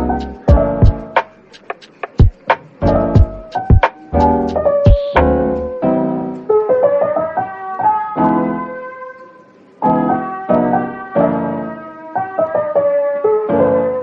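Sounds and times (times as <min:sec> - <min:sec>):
gentle piano chords: 0:00.0 - 0:14.0.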